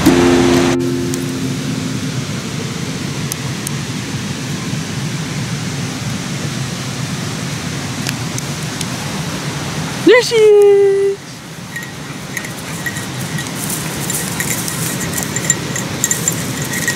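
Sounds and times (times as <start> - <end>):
creek water rushing: 0.0 - 16.9.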